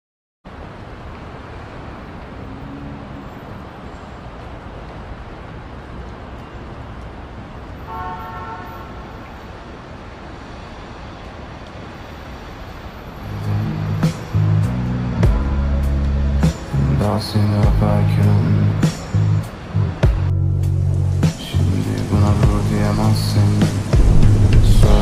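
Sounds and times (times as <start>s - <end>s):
rain hiss: 0.5s - 25.0s.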